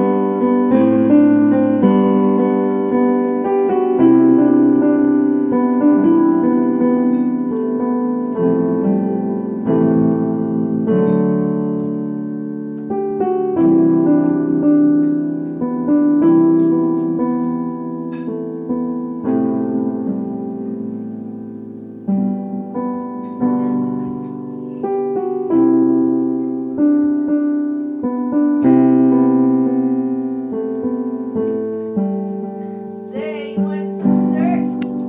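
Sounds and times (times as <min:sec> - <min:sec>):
solo piano waltz: 0:00.0 - 0:35.0.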